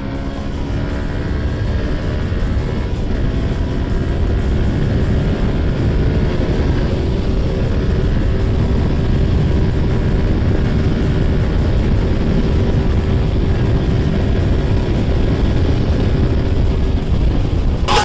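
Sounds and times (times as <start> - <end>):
motorcycle engine running hard: 0.0 - 18.0
wind noise on microphone: 0.0 - 18.0.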